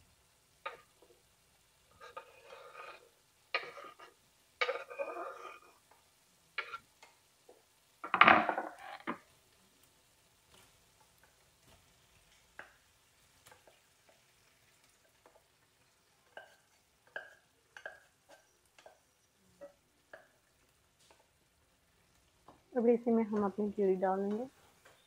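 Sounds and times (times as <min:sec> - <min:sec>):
spatula stirring in frying pan: 0:00.1 - 0:25.0.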